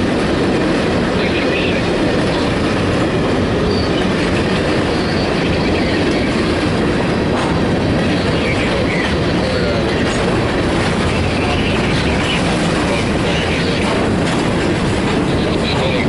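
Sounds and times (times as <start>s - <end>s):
clickety-clack of wheels on rails: 0.0s - 16.0s
freight train rumbling past: 0.0s - 16.0s.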